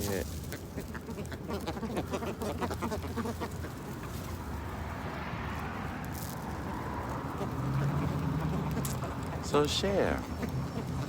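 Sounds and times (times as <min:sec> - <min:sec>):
flock of birds calling: 0:00.0 - 0:04.8, 0:06.7 - 0:11.0.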